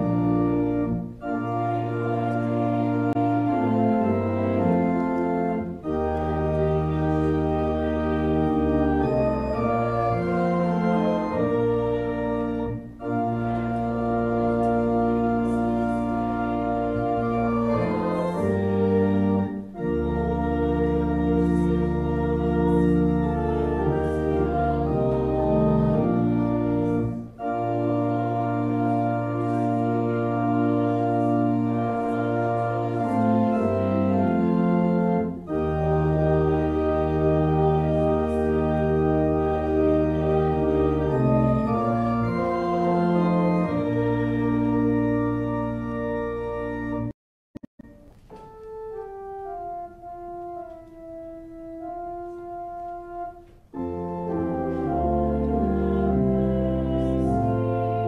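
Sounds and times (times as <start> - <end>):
pipe organ playing chords: 0.0 - 47.1, 47.8 - 58.0.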